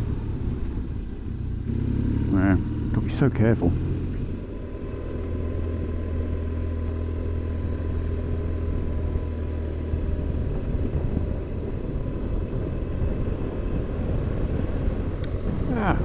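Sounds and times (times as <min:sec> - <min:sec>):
motorcycle engine droning: 0:00.0 - 0:16.0
road and wind noise: 0:00.0 - 0:16.0.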